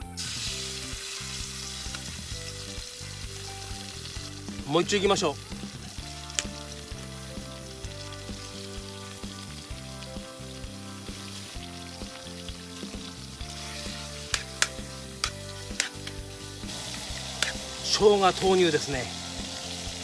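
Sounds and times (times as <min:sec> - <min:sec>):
background music: 0:00.0 - 0:20.0
liver sizzling in a pan: 0:00.1 - 0:20.0.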